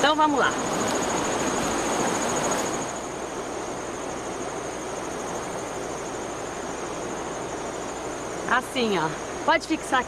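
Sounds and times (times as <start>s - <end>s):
high insect trill: 0.0s - 10.0s
outdoor hiss: 0.0s - 10.0s.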